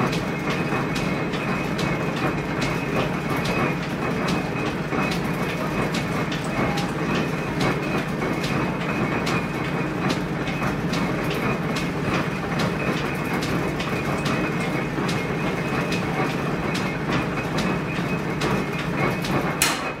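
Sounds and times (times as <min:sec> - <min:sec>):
machinery clattering: 0:00.0 - 0:20.0.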